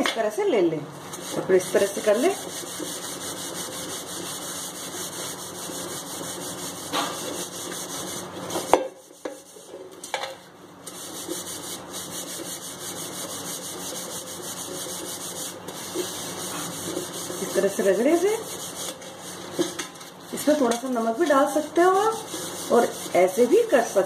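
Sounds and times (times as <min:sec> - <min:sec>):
mesh scrubber scrubbing copper jug: 0:01.2 - 0:09.7, 0:10.9 - 0:24.0.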